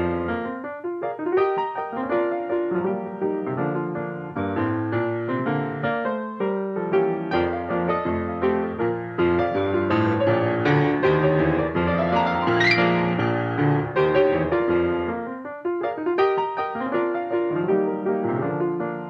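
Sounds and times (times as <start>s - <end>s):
piano melody: 0.0s - 19.0s.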